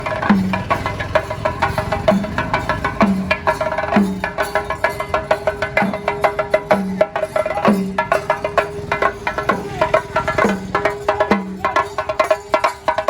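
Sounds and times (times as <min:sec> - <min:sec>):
fast sharp drum strokes: 0:00.0 - 0:13.0.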